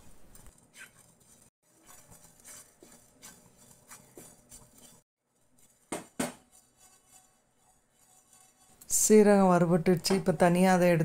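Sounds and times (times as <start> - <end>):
spatula scraping pan: 0.3 - 11.0.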